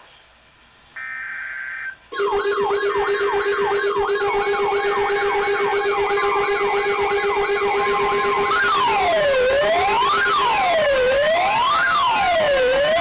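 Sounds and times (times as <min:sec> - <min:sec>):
high electronic tone burst: 0:01.0 - 0:13.0
high steady tones: 0:01.0 - 0:13.0
wailing electronic siren: 0:01.0 - 0:13.0.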